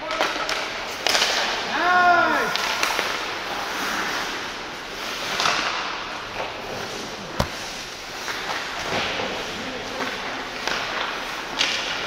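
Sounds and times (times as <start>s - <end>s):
skates scraping on ice: 0.0s - 12.0s.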